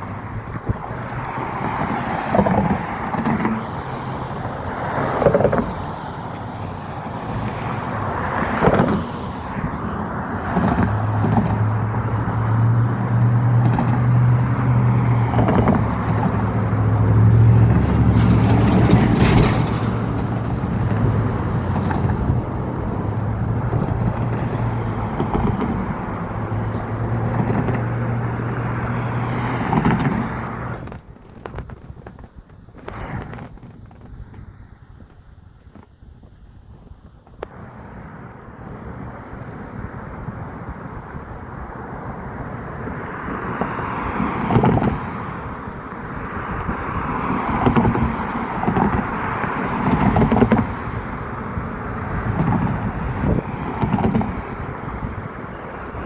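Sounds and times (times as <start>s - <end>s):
large engine droning: 0.0s - 31.1s, 37.5s - 56.0s
motor traffic: 0.0s - 56.0s.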